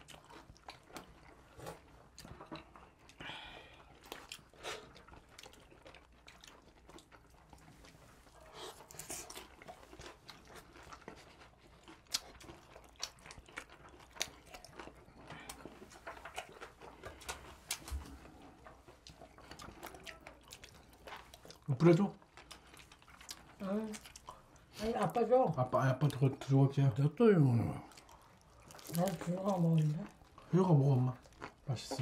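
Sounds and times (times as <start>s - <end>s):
chewing crunches: 0.0s - 24.7s, 27.6s - 32.0s.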